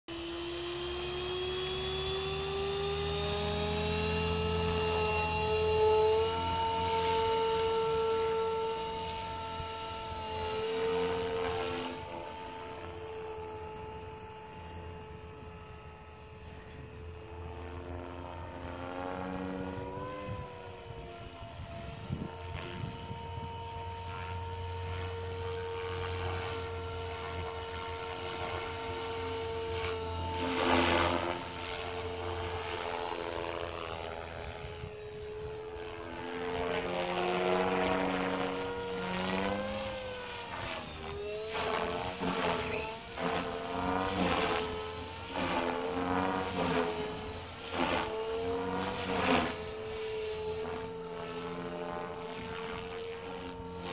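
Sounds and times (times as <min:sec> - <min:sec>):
low rotor buzz: 0:00.0 - 0:53.9
rc helicopter motor whine: 0:00.0 - 0:53.9.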